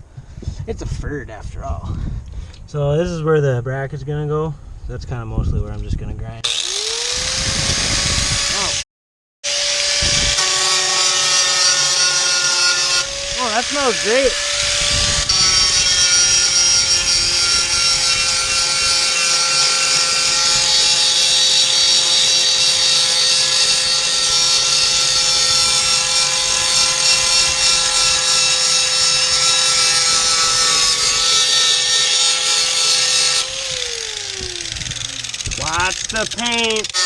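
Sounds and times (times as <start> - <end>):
angle grinder grinding steel: 6.4 - 8.8, 9.5 - 37.0.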